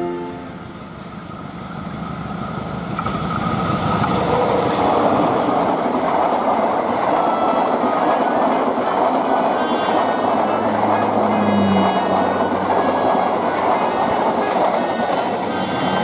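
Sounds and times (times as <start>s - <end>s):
diesel locomotive engine: 0.0s - 16.0s.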